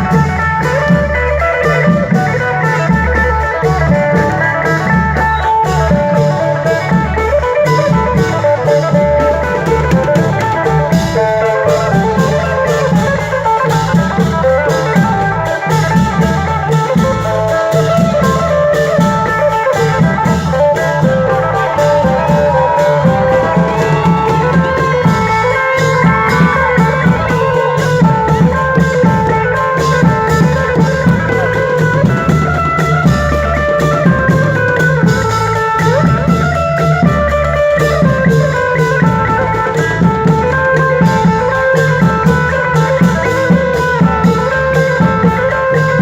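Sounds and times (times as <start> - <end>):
drum kit dance beat: 0.0 - 46.0
plucked electric string melody: 0.0 - 46.0.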